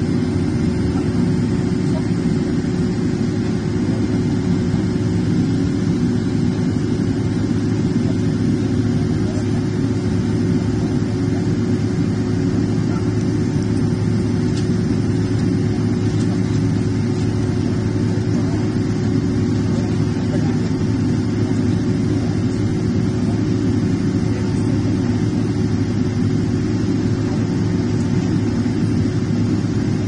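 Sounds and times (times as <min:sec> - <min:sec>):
airplane cabin hum: 0:00.0 - 0:30.0.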